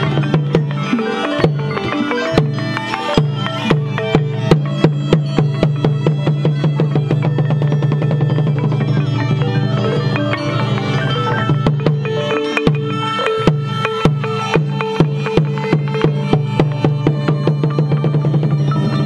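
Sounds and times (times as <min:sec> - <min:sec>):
mallet percussion and drums: 0:00.0 - 0:19.0.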